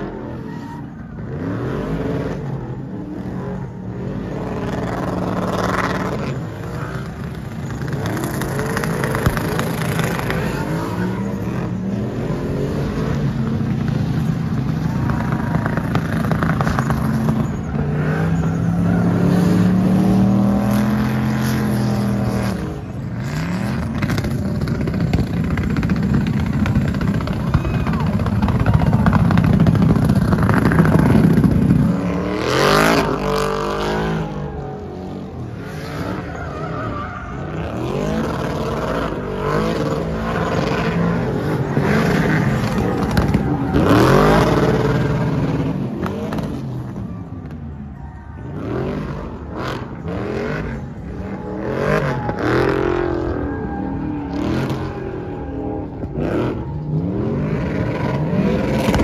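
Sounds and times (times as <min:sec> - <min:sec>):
truck engines revving by: 0:00.0 - 0:59.0.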